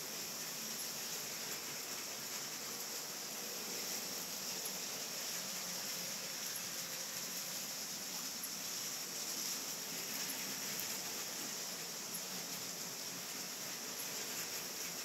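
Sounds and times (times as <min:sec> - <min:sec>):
steady hiss: 0:00.0 - 0:15.0
toy train motors on plastic track: 0:00.0 - 0:15.0.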